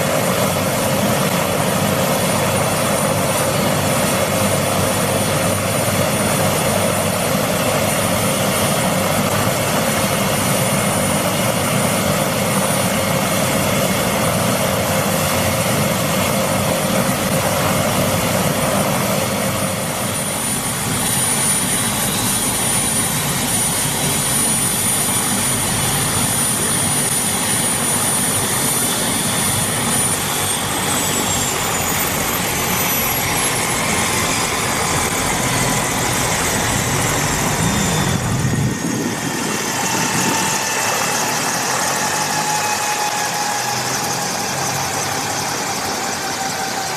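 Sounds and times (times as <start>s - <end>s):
helicopter rotor and engine noise: 0.0s - 46.9s
high turbine whine: 0.0s - 46.9s.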